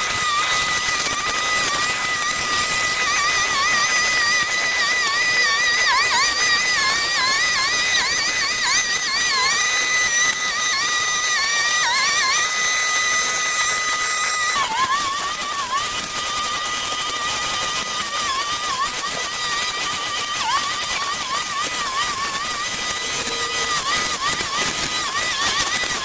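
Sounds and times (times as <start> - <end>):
brush cutter running: 0.0 - 26.0.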